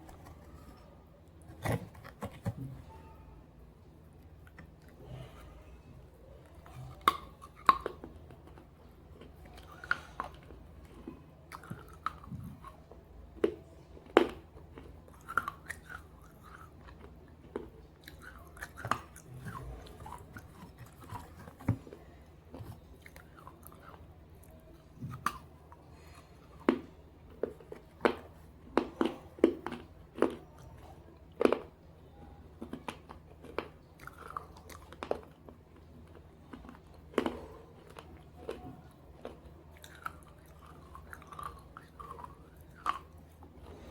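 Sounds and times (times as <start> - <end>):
crunching and chewing: 0.0 - 3.0, 4.0 - 43.9
faint low hum: 0.0 - 43.9.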